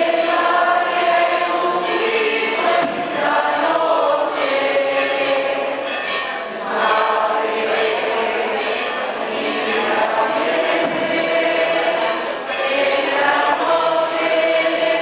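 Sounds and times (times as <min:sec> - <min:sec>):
mixed choir singing a hymn: 0:00.0 - 0:15.0.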